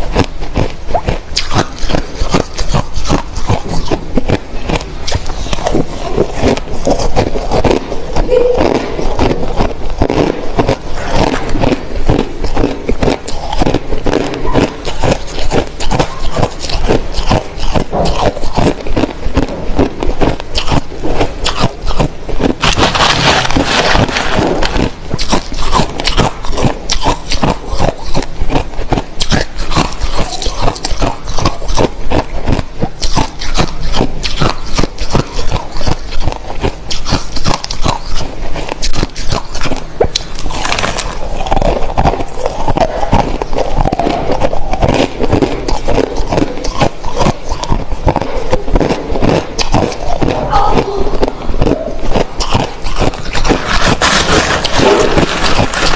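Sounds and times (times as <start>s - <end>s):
chewing crushed ice: 0.0s - 55.9s.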